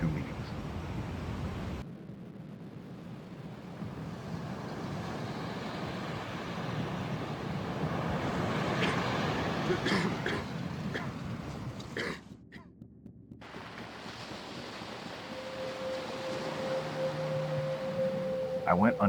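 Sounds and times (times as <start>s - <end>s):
wind-like rushing noise: 0.0s - 11.9s, 13.4s - 19.0s.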